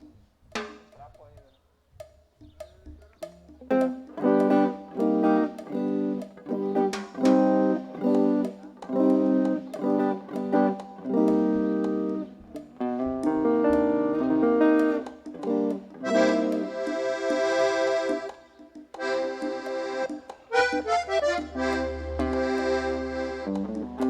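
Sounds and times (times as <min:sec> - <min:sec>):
guitar playing rhythmic chords: 0:03.2 - 0:24.0
accordion: 0:03.8 - 0:24.0.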